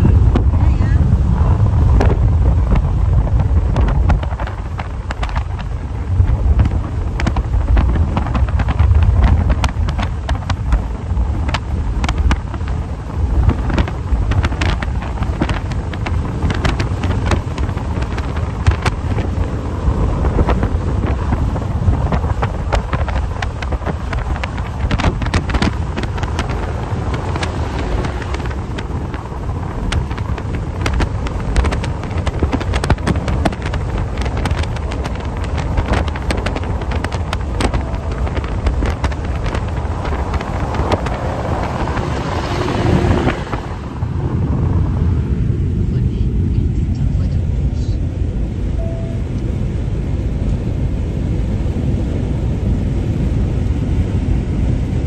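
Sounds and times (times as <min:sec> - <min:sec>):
car rumble at highway speed: 0:00.0 - 0:55.0
wind buffeting microphone: 0:00.0 - 0:55.0.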